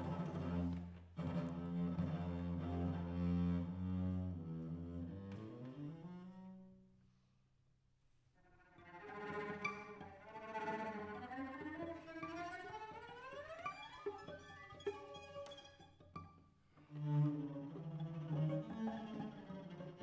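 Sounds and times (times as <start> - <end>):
cellos playing: 0.0 - 6.8, 8.4 - 20.0.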